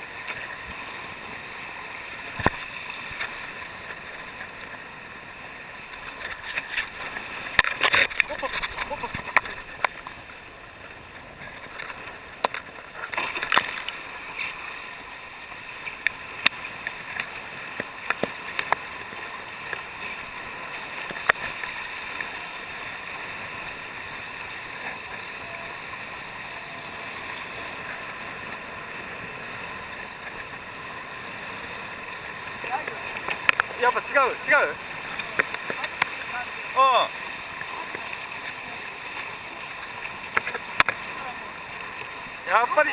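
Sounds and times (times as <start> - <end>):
water rushing past hulls: 0.0 - 42.9.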